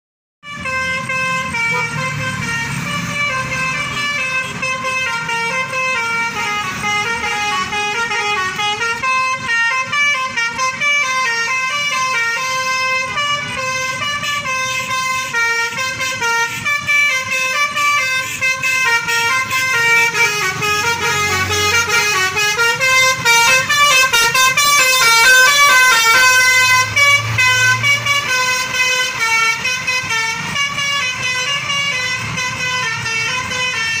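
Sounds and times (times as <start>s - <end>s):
multi-tone musical bus horn: 0.4s - 34.0s.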